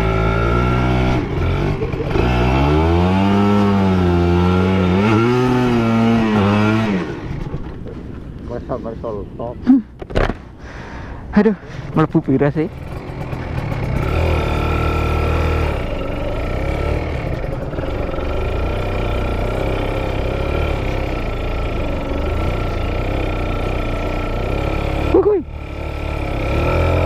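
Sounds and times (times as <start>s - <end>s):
motorcycle engine revving: 0.0s - 7.9s, 12.3s - 27.0s.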